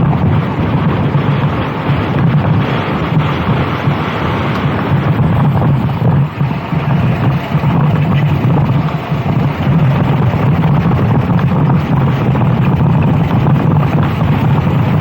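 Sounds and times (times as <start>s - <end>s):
kart engine running: 0.0s - 15.0s
wind buffeting microphone: 0.0s - 15.0s.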